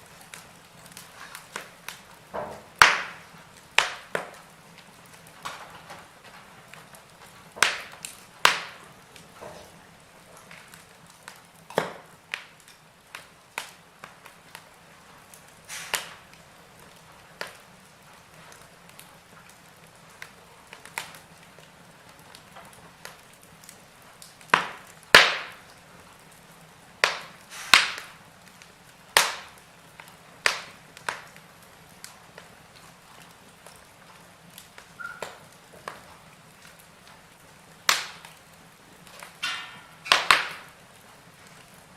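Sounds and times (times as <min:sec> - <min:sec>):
logs crackling in a fireplace: 0:00.0 - 0:41.9.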